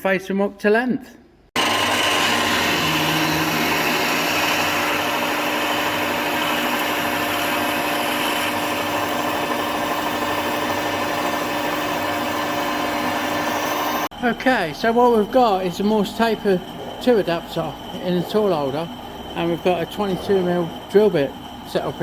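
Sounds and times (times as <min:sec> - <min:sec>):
electric motor hum: 0:01.6 - 0:22.0.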